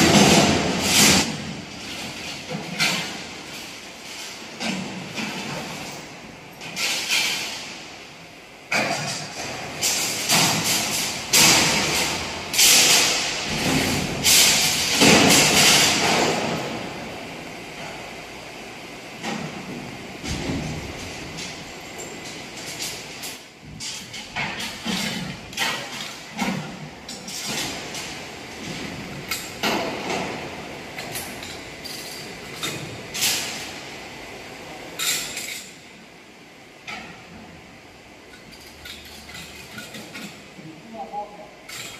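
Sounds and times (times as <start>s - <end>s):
steady background noise: 0.0s - 41.9s.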